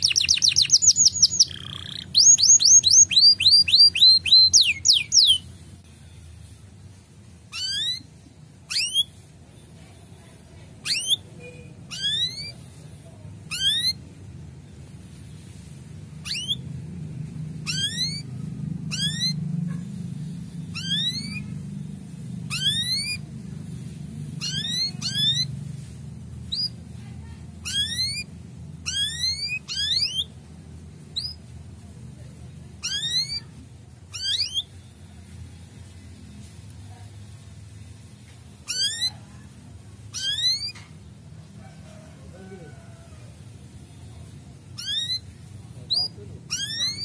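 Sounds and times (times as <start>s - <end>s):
canary chirping: 0.0s - 43.0s, 43.6s - 47.0s.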